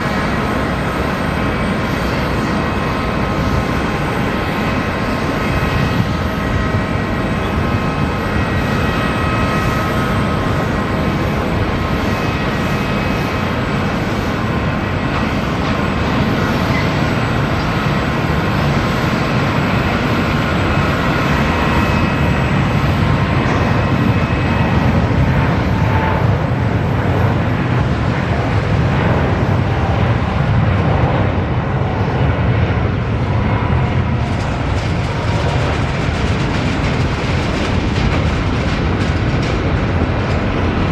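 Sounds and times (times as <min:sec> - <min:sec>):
jet engines at takeoff power: 0:00.0 - 0:40.9.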